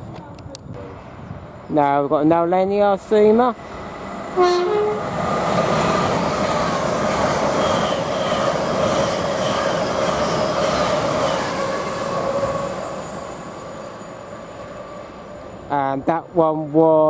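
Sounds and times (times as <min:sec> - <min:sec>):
faint train whine: 0:00.8 - 0:17.0
train wheels rushing on rail: 0:00.8 - 0:17.0.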